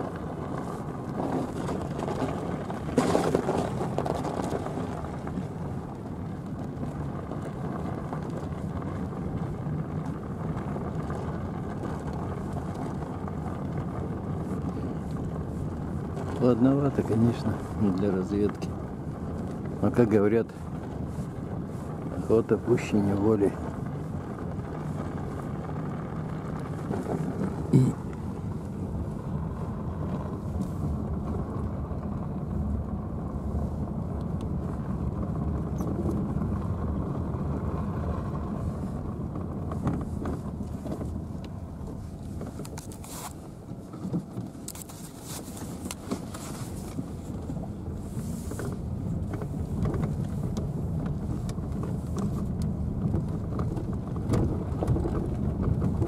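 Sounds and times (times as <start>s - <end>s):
car knocks and rattles: 0.0s - 33.0s, 34.2s - 56.0s
engine and tyres rumbling: 0.0s - 56.0s.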